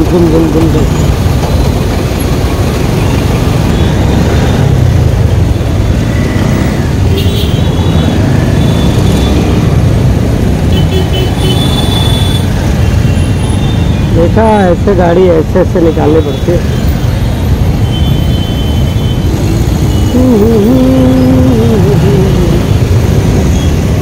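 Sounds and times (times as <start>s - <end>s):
motorcycle and traffic rumble: 0.0s - 24.0s.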